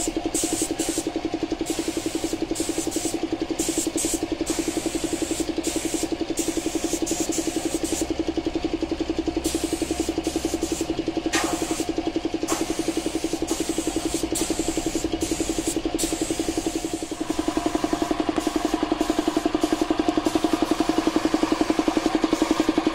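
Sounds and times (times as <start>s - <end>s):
air compressor pulsing: 0.0s - 22.9s
spray gun hissing: 0.3s - 8.1s, 9.4s - 22.9s.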